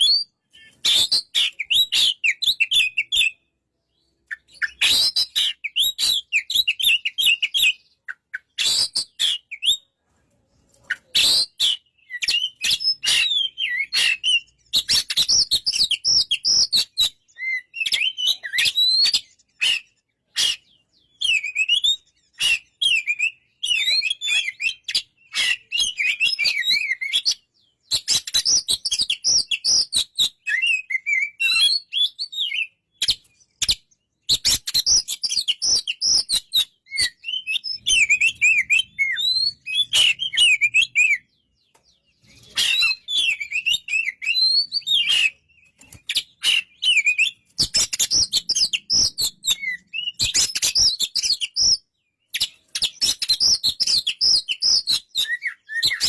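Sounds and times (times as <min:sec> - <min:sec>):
bird singing whistled phrases: 0:00.0 - 0:09.9, 0:10.9 - 0:41.5, 0:42.3 - 0:56.0.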